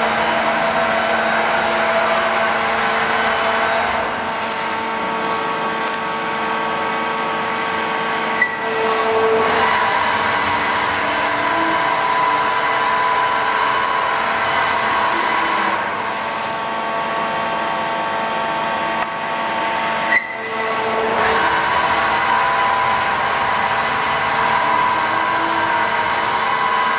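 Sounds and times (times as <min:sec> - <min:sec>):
milling machine whine: 0:00.0 - 0:26.9.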